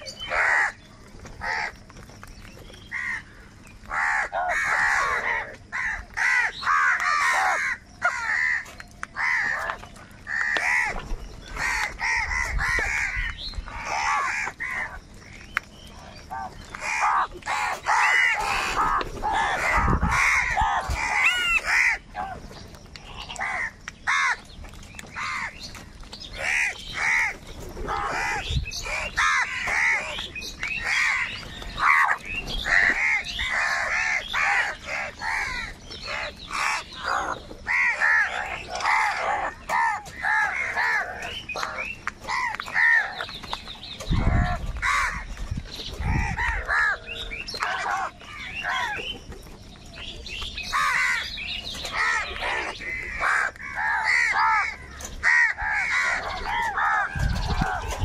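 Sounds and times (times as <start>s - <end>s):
crows cawing: 0.0s - 1.9s, 2.8s - 24.5s, 25.1s - 43.4s, 44.1s - 49.2s, 50.6s - 58.0s.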